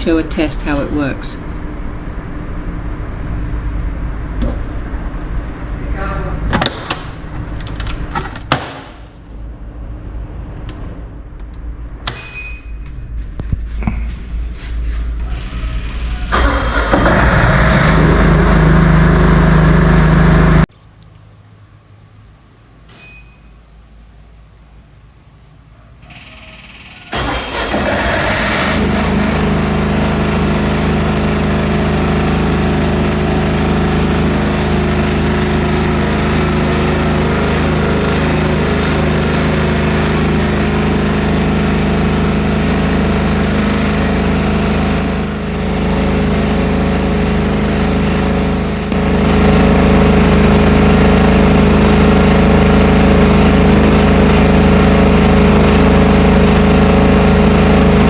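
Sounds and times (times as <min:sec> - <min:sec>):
diesel generator engine running: 0:00.0 - 0:20.7, 0:26.1 - 0:58.0.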